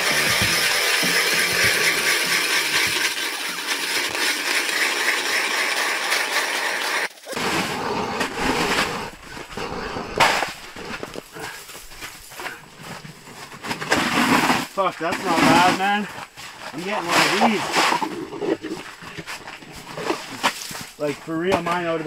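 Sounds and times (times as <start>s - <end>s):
dense grinding noise: 0.0s - 22.0s
shovel scraping ice chips: 0.0s - 22.0s.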